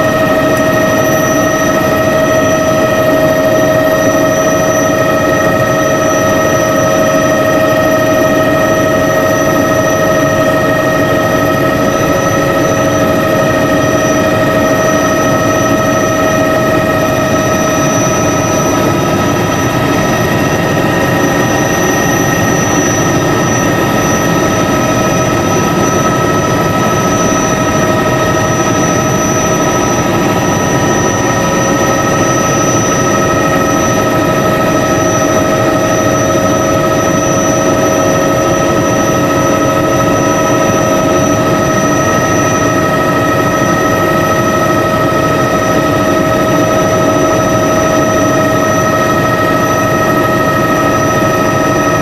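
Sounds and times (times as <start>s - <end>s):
constant whining tones: 0.0s - 52.0s
helicopter engine and rotor drone: 0.0s - 52.0s.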